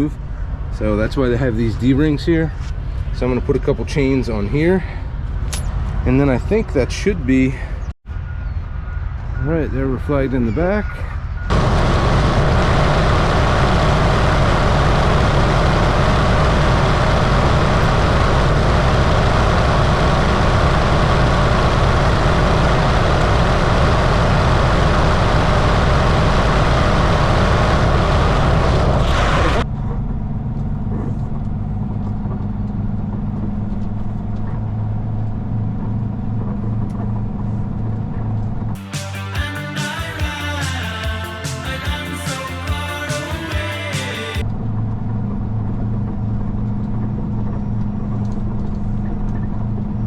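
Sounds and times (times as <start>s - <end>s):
truck road and wind noise: 0.0s - 38.8s, 44.4s - 50.0s
low engine hum: 0.0s - 50.0s.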